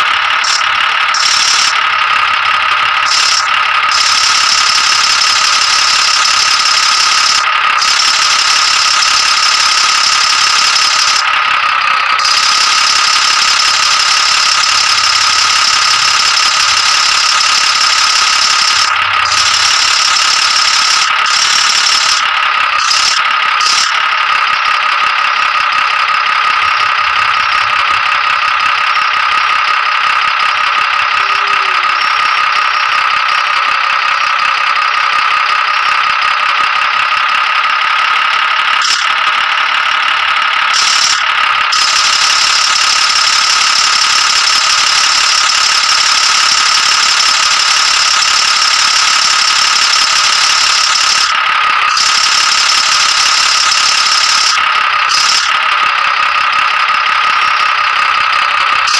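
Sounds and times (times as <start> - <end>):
rattle: 0.0 - 58.9
tractor engine whining: 0.0 - 58.9.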